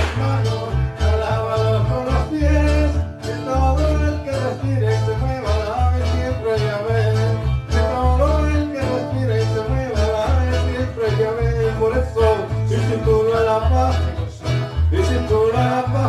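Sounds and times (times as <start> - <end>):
acoustic guitar: 0.0 - 16.0
bass line: 0.0 - 16.0.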